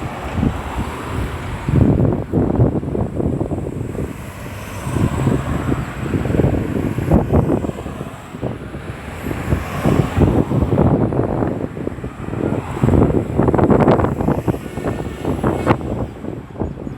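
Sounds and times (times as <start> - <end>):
road traffic passing: 0.0 - 16.9
wind buffeting microphone: 0.0 - 16.9.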